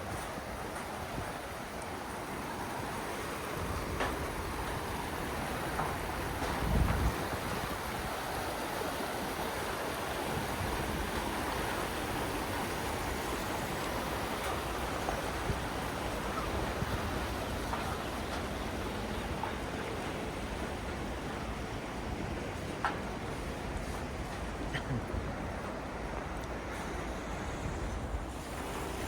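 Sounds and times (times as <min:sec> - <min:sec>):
rushing waterfall: 0:00.0 - 0:29.0.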